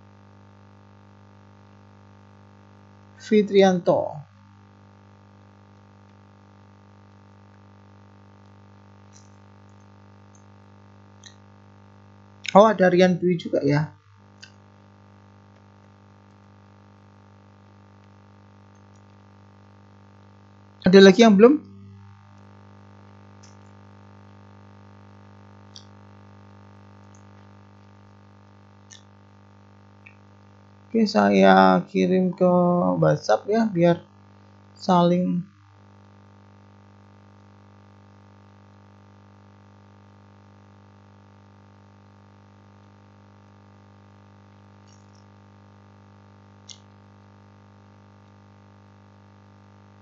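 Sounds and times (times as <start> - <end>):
electrical mains hum: 0.0 - 50.0.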